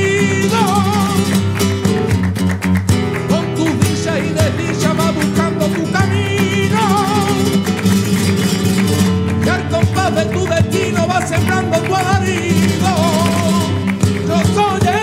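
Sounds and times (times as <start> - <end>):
man singing: 0.0 - 1.6, 3.2 - 8.2, 9.3 - 15.0
acoustic flamenco guitar: 0.0 - 15.0
rhythmic hand-clapping: 0.0 - 15.0.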